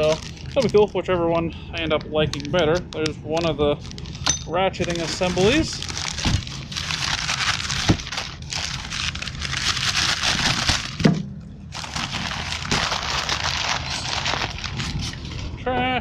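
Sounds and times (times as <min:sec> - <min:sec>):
packing paper crackling and rustling: 0:00.0 - 0:01.0, 0:01.9 - 0:11.1, 0:11.7 - 0:15.4.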